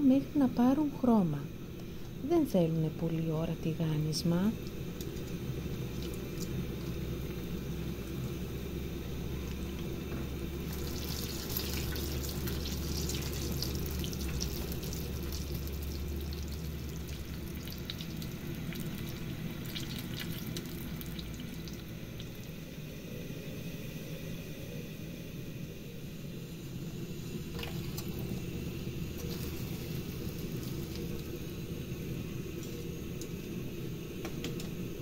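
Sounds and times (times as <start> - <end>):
dough frying in hot oil: 0.0 - 25.3, 25.9 - 35.0
low steady hum: 0.0 - 35.0.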